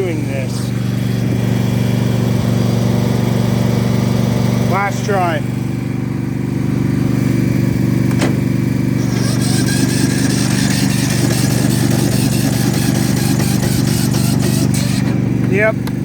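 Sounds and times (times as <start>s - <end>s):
engine running: 0.0s - 16.0s
starter cranking engine: 0.0s - 16.0s.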